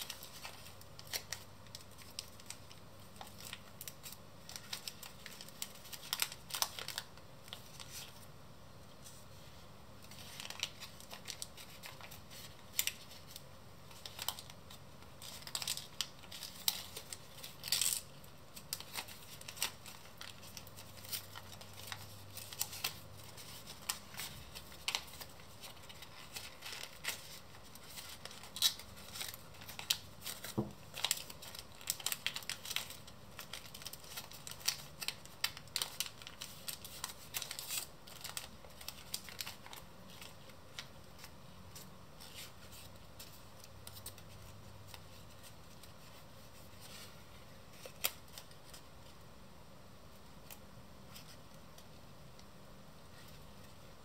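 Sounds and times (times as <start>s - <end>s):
paper rustling and crinkling: 0.0s - 49.2s.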